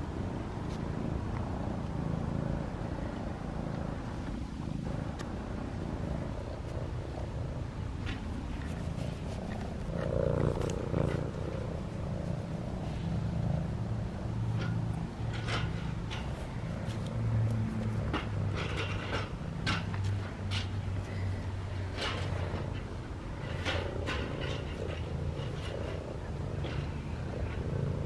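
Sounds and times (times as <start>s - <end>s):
cat purring: 0.8s - 28.0s.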